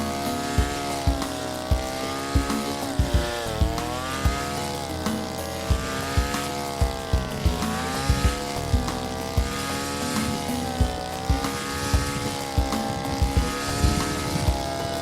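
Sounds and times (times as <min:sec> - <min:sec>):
low thumps: 0:00.0 - 0:15.0
petrol engine at high revs: 0:00.0 - 0:15.0.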